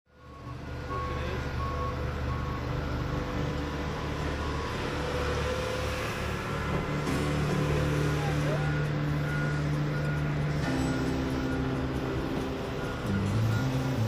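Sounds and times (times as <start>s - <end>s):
diesel engine running: 0.1s - 14.0s
backup alarm beeping: 0.2s - 5.5s, 6.4s - 14.0s.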